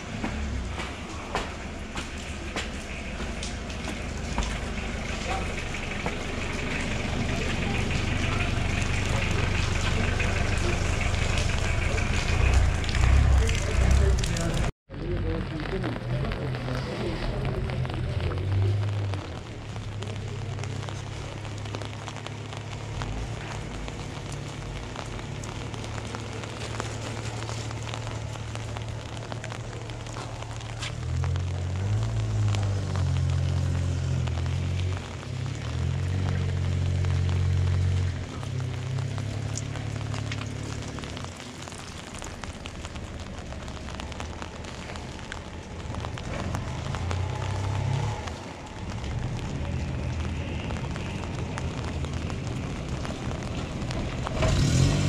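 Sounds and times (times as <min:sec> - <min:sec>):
low rumble: 0:00.0 - 0:54.7
rain on an umbrella: 0:00.0 - 0:55.0.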